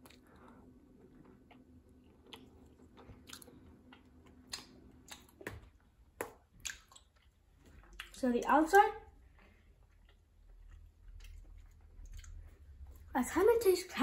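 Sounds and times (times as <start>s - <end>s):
faint chewing: 0.0s - 13.1s.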